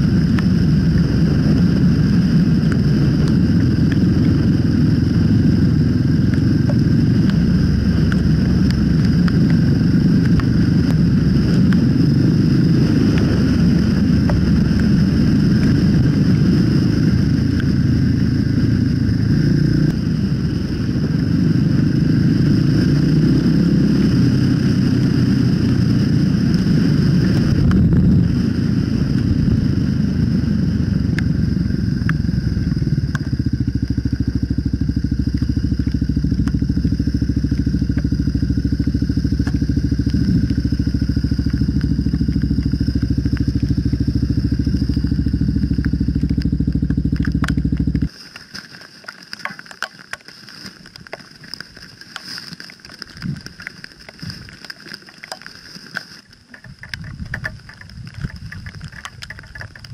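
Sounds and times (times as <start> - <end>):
motorcycle engine running: 0.0 - 48.1, 56.6 - 59.9
road and wind noise: 0.0 - 59.9.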